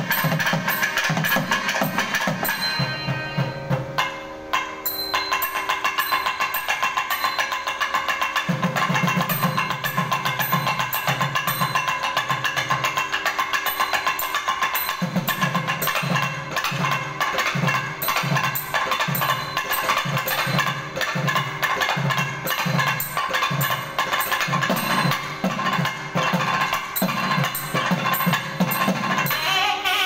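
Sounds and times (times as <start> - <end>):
barrel drums playing: 0.0 - 30.0.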